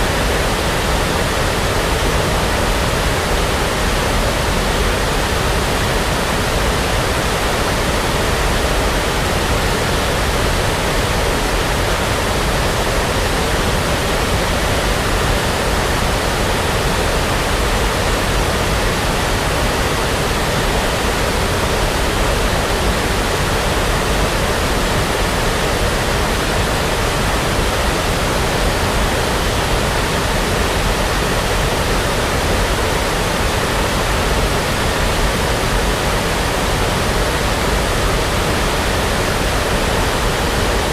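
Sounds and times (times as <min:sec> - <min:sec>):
brown noise rush: 0:00.0 - 0:40.9.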